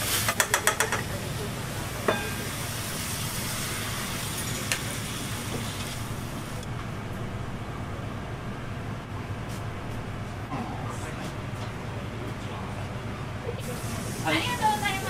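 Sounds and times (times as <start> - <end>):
kitchen equipment hum: 0.0 - 15.0.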